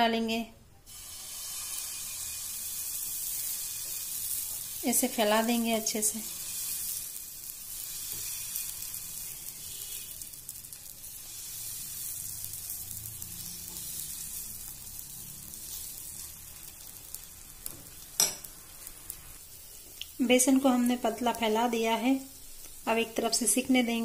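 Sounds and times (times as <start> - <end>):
batter sizzling in hot oil: 0.9 - 24.0.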